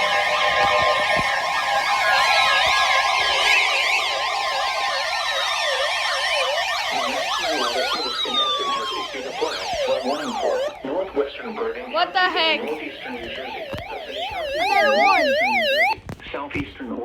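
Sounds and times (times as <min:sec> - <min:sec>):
electronic sirens yelping: 0:00.0 - 0:16.0
long falling siren glides: 0:00.0 - 0:16.0
steady siren tones: 0:00.0 - 0:16.0.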